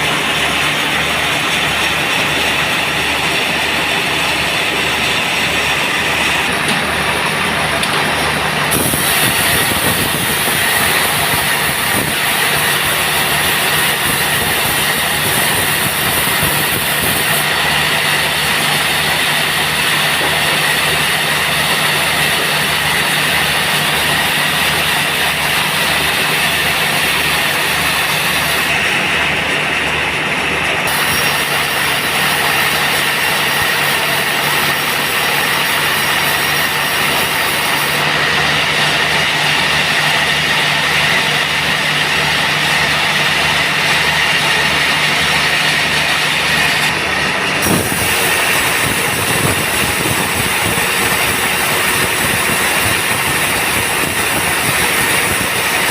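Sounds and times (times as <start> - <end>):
band sawmill running: 0.0 - 55.9.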